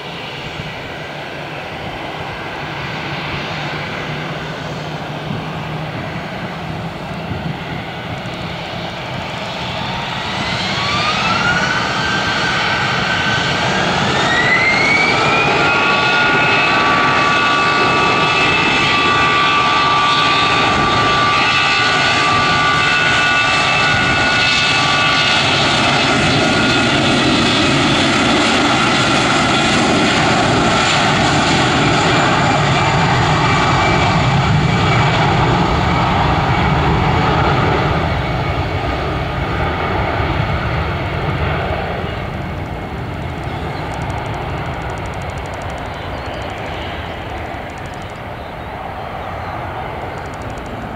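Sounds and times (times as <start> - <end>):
jet engine roar: 0.0 - 50.9
jet engines whining: 0.0 - 50.9.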